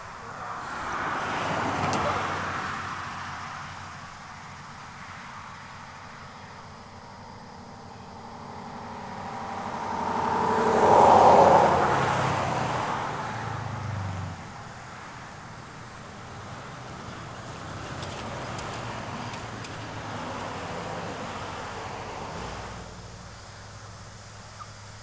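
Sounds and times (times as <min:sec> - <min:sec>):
car passing by: 0:00.0 - 0:24.1.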